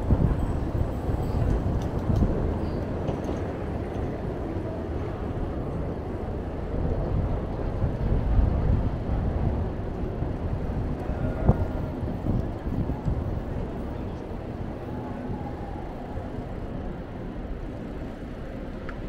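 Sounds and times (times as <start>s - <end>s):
city street traffic rumble: 0.0s - 19.0s
wind buffeting microphone: 0.0s - 19.0s.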